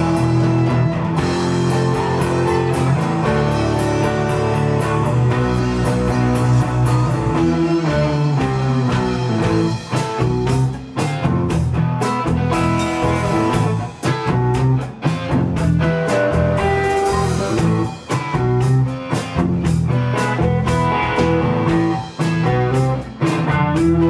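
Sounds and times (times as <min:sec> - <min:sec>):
electric guitars: 0:00.0 - 0:24.0
live band playing: 0:00.0 - 0:24.0.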